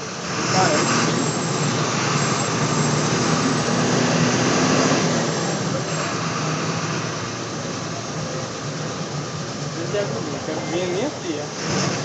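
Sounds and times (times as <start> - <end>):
bus engine humming: 0.0 - 12.0
road and cabin noise: 0.0 - 12.0.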